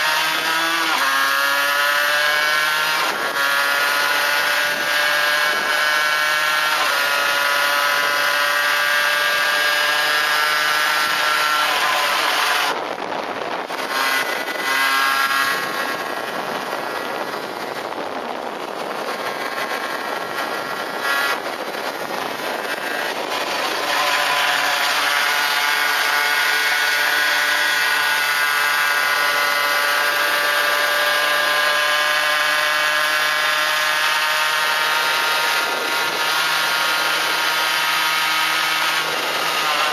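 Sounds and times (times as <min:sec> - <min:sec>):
two-stroke engine buzzing: 0:00.0 - 0:39.9.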